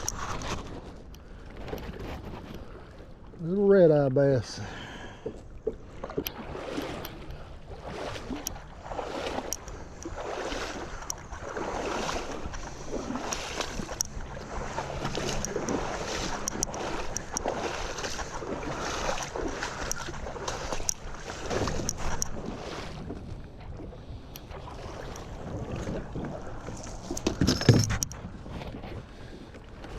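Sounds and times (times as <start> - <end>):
water sloshing around a kayak: 0.0 - 29.9.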